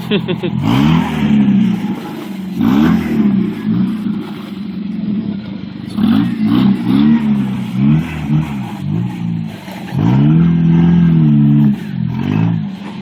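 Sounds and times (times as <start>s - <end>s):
engine throttle blips: 0.0s - 13.0s.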